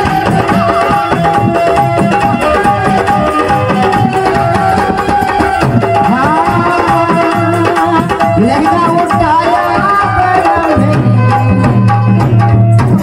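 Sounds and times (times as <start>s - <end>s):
folk dance music: 0.0s - 13.0s
melody line: 0.0s - 13.0s
steady drumming: 0.0s - 13.0s.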